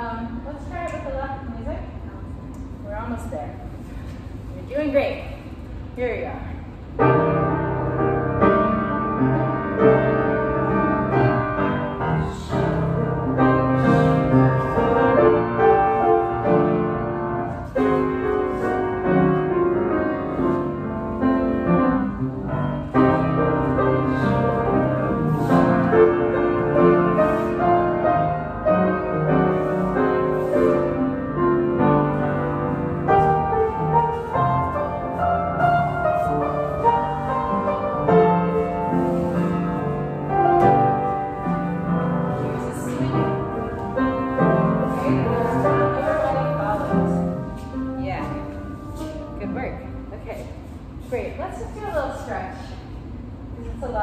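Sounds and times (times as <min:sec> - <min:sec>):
piano playing: 0:06.8 - 0:51.0.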